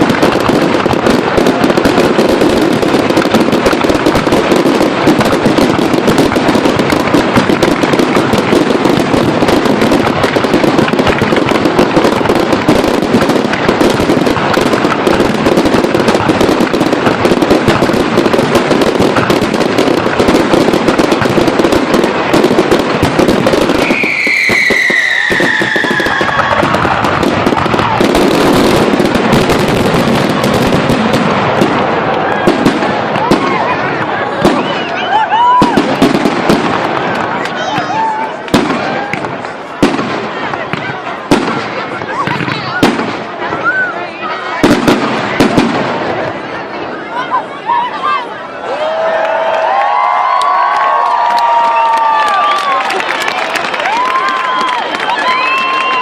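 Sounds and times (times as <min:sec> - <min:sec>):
whistling firework: 0:00.0 - 0:46.6, 0:48.8 - 0:56.0
fireworks bangs and crackles: 0:00.0 - 0:56.0.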